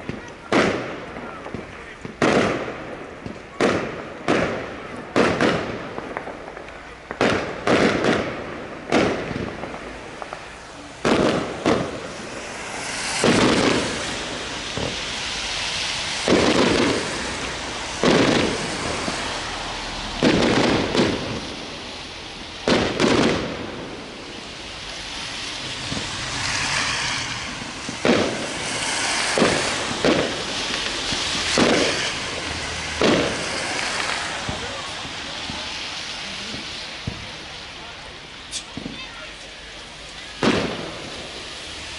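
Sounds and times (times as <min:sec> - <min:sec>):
firework shells bursting: 0:01.5 - 0:37.4
steady hiss: 0:08.3 - 0:41.9.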